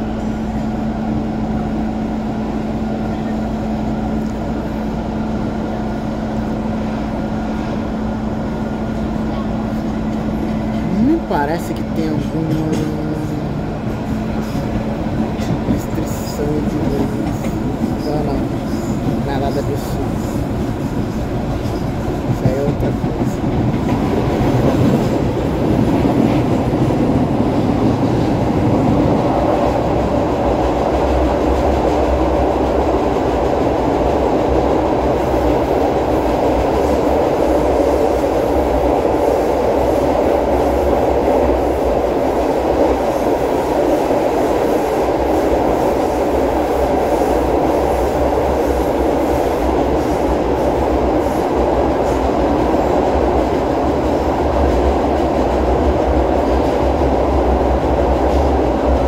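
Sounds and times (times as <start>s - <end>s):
rumble of train wheels on rail: 0.0s - 59.0s.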